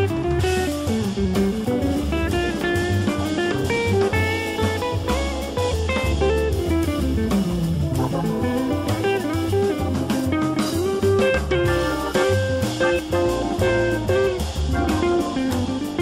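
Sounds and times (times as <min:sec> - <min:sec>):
bass: 0:00.0 - 0:16.0
drum kit: 0:00.0 - 0:16.0
plucked guitar melody: 0:00.0 - 0:16.0.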